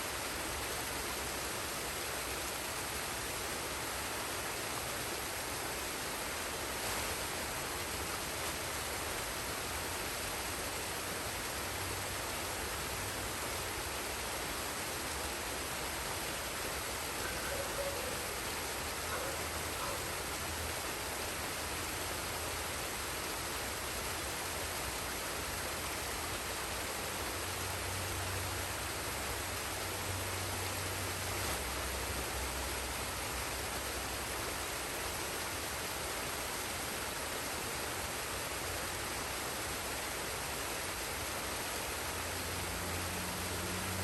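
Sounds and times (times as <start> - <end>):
waterfall and stream rushing: 0.0 - 44.0.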